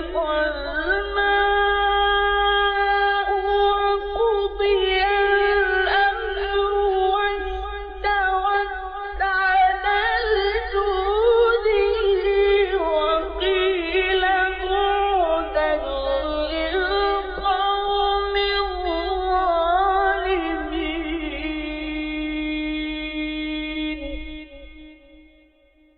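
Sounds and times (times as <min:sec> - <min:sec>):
man chanting: 0:00.0 - 0:25.4.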